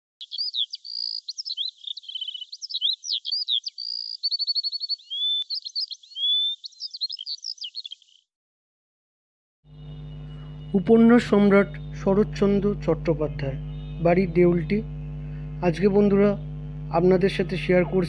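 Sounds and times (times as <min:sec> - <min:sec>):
songbird singing: 0:00.2 - 0:08.3, 0:09.7 - 0:18.0.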